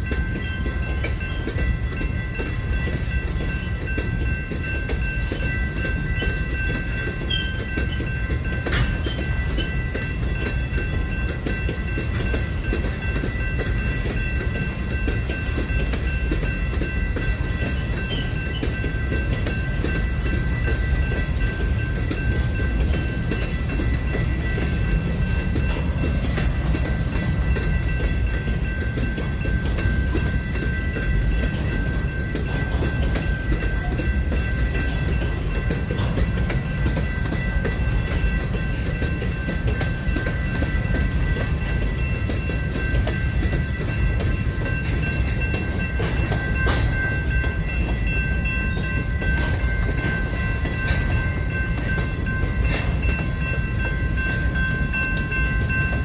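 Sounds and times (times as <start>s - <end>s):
railcars rumbling: 0.0s - 56.0s.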